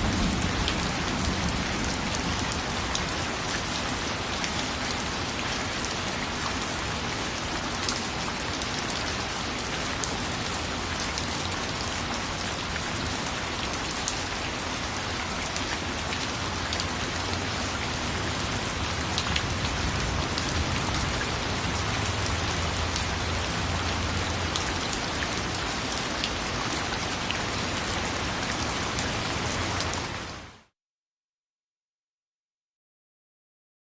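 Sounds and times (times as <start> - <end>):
rain pattering: 0.0 - 30.6.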